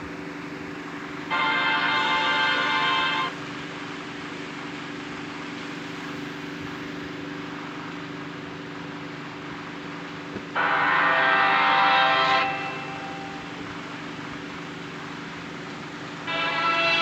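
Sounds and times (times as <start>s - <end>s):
low hum of held tones: 0.0s - 17.0s.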